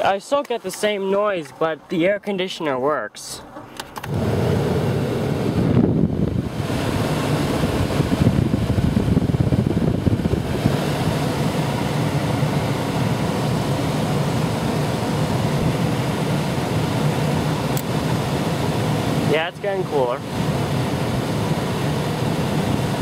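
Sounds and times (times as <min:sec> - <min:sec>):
car engine idling: 0:03.4 - 0:23.0.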